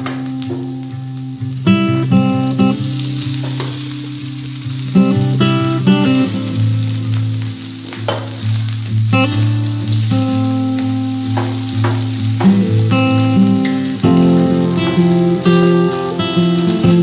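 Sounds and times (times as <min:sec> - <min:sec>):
faint sizzle: 0:00.0 - 0:17.0
instrumental music: 0:00.0 - 0:17.0.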